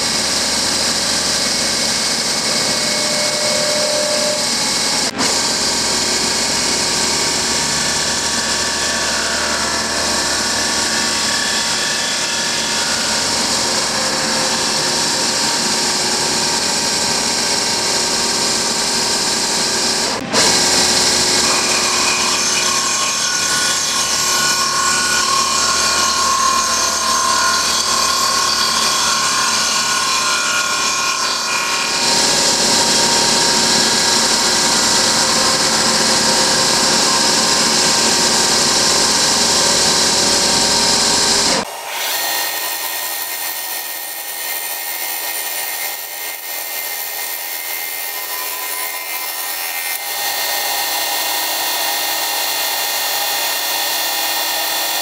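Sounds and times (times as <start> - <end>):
fly cutter milling blocks: 0.0 - 55.0.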